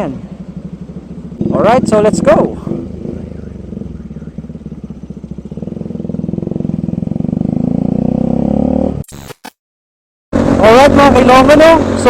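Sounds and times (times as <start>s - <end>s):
motorcycle engine accelerating: 0.0s - 9.0s, 10.4s - 12.0s.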